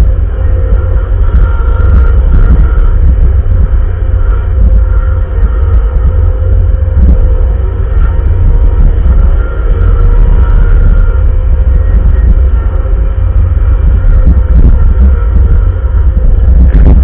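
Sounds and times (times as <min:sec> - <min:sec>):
diesel engine rumbling under load: 0:00.0 - 0:17.0
faint steady whine: 0:00.0 - 0:17.0.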